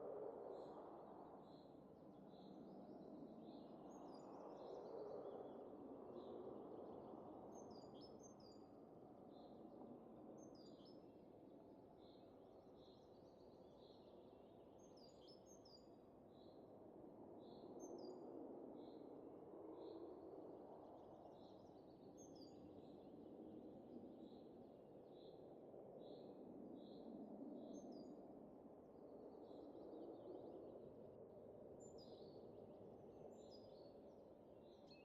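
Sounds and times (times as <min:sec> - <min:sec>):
soft wind: 0:00.0 - 0:35.0.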